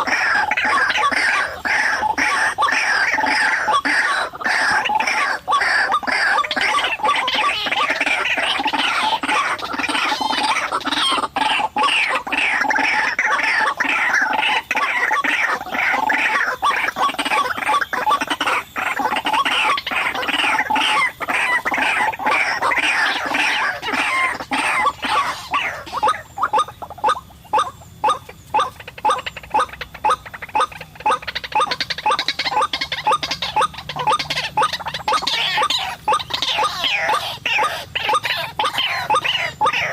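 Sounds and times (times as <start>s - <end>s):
waterhens calling: 0.0s - 39.9s.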